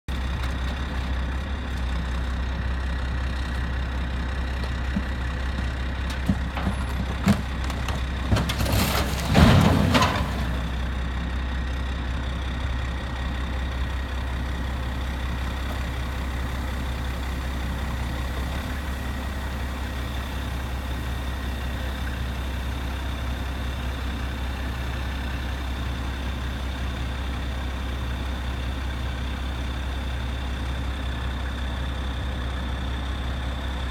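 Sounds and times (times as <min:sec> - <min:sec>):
large vehicle engine idling: 0:00.1 - 0:33.9.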